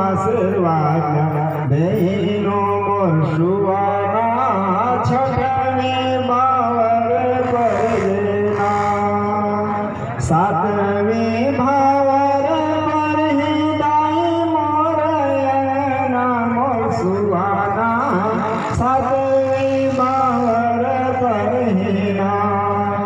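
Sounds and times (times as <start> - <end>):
person chanting in held notes: 0.0 - 23.0.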